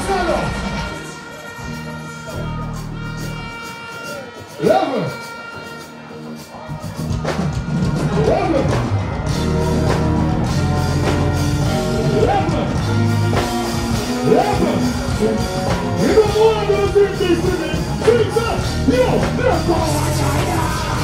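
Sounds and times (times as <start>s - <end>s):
loud dancehall music: 0.0s - 21.0s.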